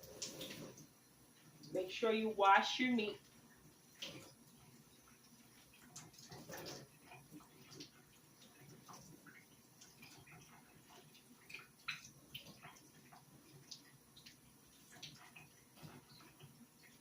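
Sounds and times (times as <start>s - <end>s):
water splashing and dripping: 0.0s - 17.0s.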